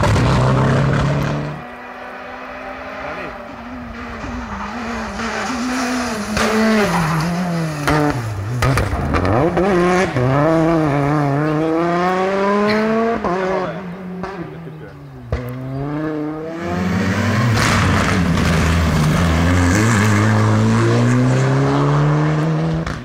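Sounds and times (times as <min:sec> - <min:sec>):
engine bangs: 0:00.0 - 0:23.0
rally car engine revving: 0:00.0 - 0:23.0.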